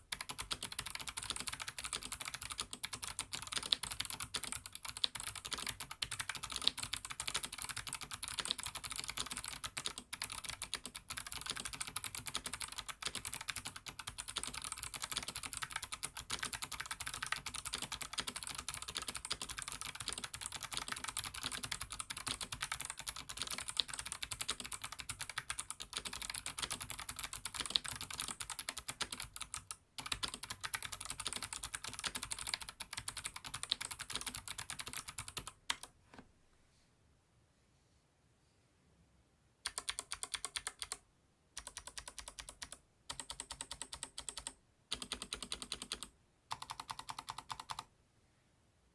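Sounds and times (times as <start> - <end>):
clicky mechanical keyboard typing: 0.0 - 35.9, 39.6 - 41.0, 41.6 - 47.9.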